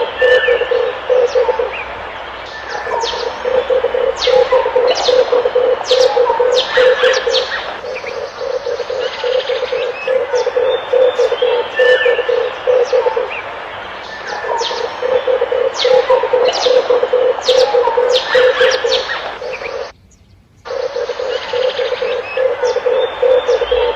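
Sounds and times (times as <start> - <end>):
dove cooing in pulsed notes: 0.0 - 19.9, 20.7 - 23.9
small birds chirping: 0.0 - 23.9.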